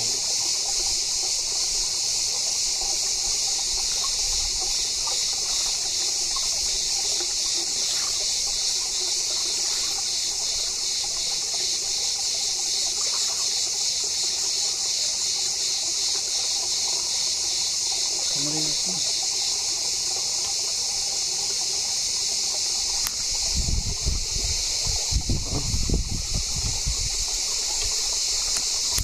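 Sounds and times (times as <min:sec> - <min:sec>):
stream trickling over stones: 0:00.0 - 0:29.0.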